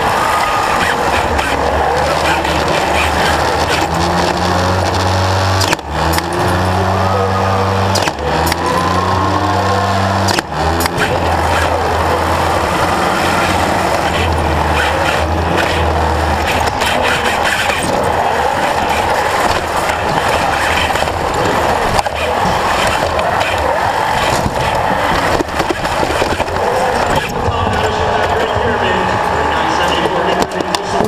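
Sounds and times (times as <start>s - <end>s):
electric drive motors running: 0.0s - 31.0s.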